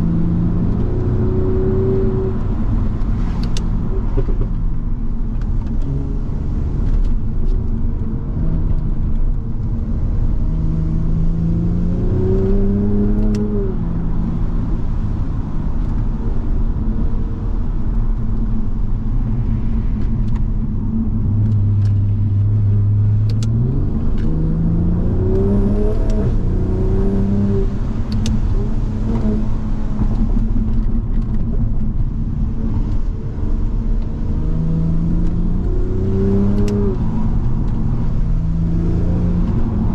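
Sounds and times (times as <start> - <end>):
car engine accelerating: 0.0 - 39.9
tyre and road noise: 0.0 - 39.9.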